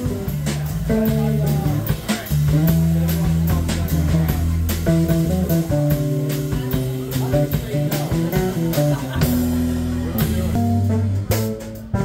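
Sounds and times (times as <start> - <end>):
jazz guitar chords: 0.0 - 12.0
walking double bass: 0.0 - 12.0.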